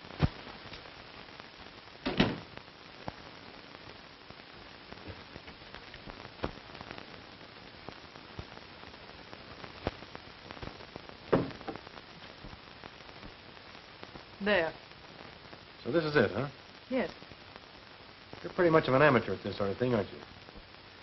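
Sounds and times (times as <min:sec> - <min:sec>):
film soundtrack hiss and crackle: 0:00.0 - 0:21.0.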